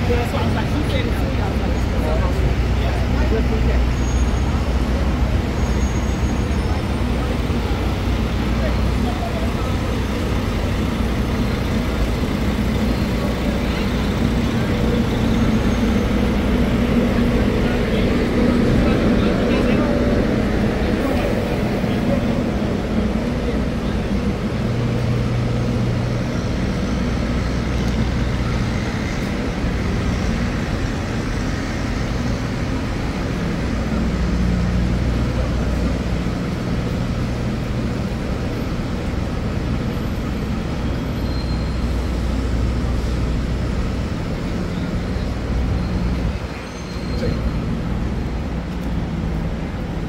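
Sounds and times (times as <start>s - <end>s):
motor traffic rumble: 0.0s - 50.0s
street noise: 0.0s - 50.0s.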